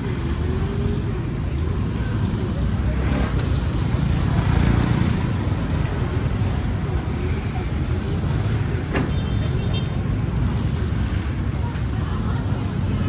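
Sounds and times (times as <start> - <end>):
diesel machinery engine rumble: 0.0 - 13.0.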